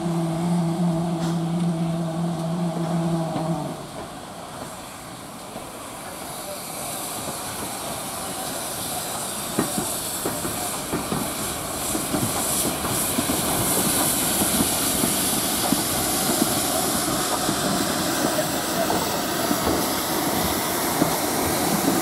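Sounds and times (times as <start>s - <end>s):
steam locomotive hissing steam: 0.0s - 22.0s.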